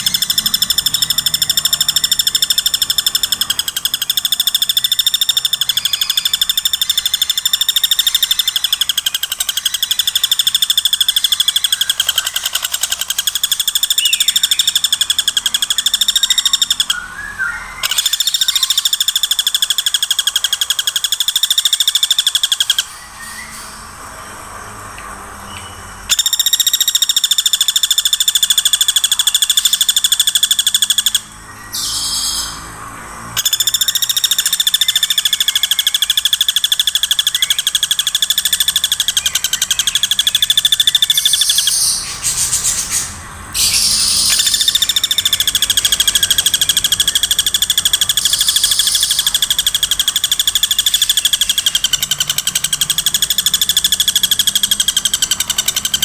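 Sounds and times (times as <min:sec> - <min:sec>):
woodpecker rattling call: 0:00.0 - 0:23.8, 0:26.1 - 0:56.0.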